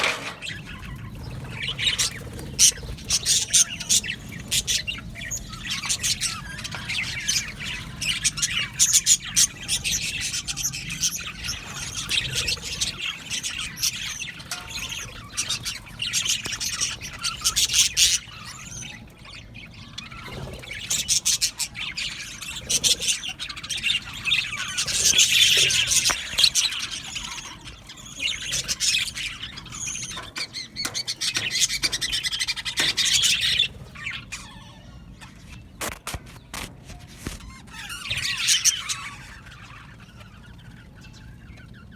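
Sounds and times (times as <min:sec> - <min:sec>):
budgerigars chirping and warbling: 0:00.0 - 0:41.9.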